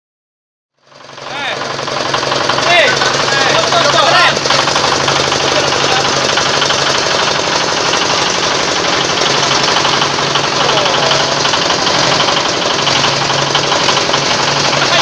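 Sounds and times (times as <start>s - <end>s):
grinder machine running: 0.8s - 15.0s.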